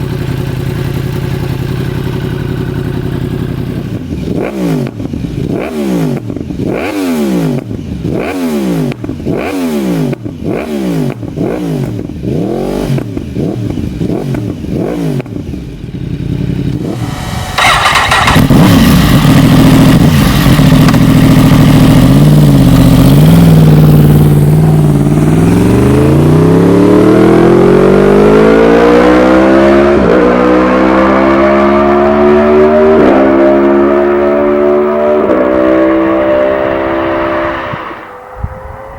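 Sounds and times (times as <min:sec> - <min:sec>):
motorcycle accelerating with upshifts: 0:00.0 - 0:38.9
motorcycle engine revving: 0:00.0 - 0:38.9.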